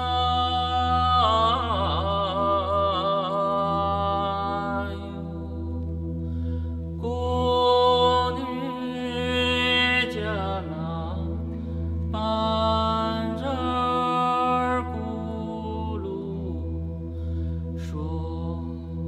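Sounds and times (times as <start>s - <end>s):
chanting voice: 0.0s - 19.0s
low drone: 0.0s - 19.0s.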